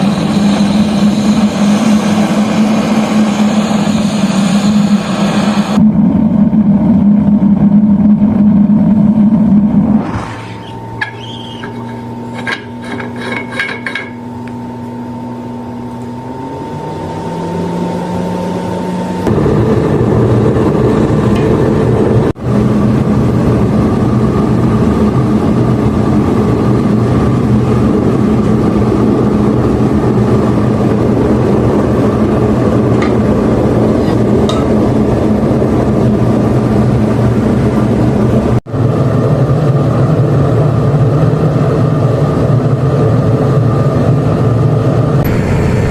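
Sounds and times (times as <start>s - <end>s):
burner rushing roar: 0.0s - 13.1s, 15.4s - 45.9s
burner blower hum: 0.0s - 45.9s.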